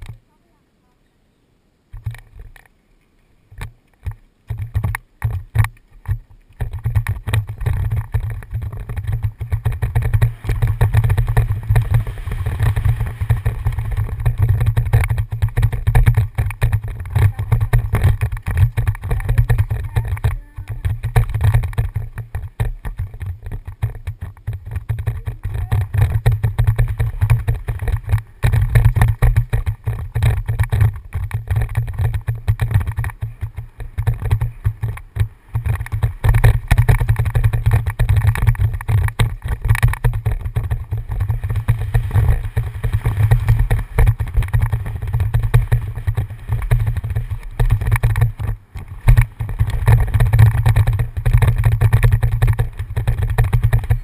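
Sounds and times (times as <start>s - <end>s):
wind rumbling on microphone: 0.0s - 0.6s, 1.9s - 54.0s
mountain bike clattering on trail: 3.5s - 54.0s.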